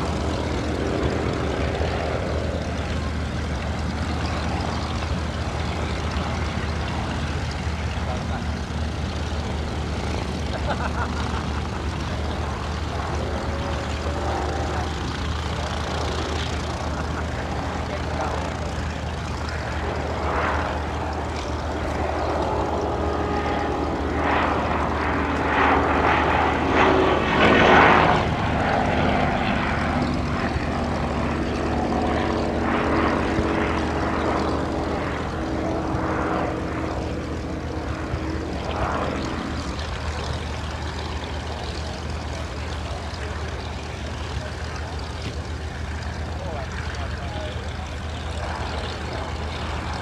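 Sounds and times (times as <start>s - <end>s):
propeller plane flying past: 0.0s - 50.0s.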